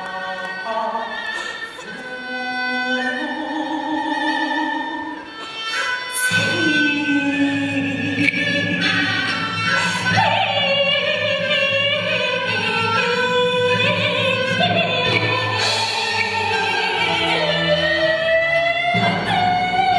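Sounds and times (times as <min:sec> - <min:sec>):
opera band accompaniment: 0:00.0 - 0:19.9
woman singing opera: 0:00.0 - 0:19.9.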